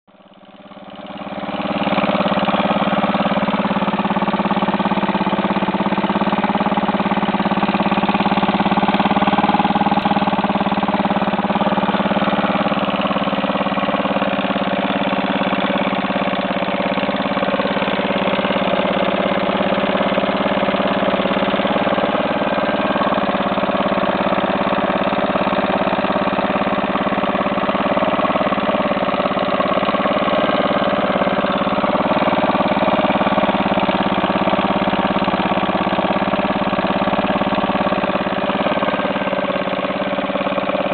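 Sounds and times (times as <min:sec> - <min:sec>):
outboard motor idling: 0:00.1 - 0:40.9.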